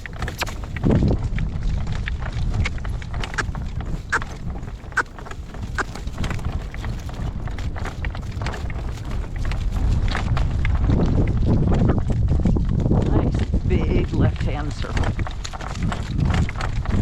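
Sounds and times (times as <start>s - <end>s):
horse hooves trotting: 0.0s - 13.7s, 14.8s - 17.0s
wind buffeting microphone: 0.0s - 17.0s.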